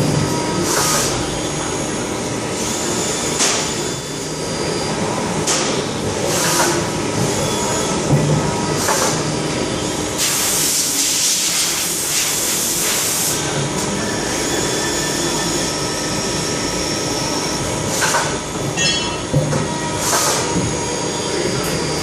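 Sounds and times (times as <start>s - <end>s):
lathe machine running with whine: 0.0s - 10.2s, 12.6s - 22.0s.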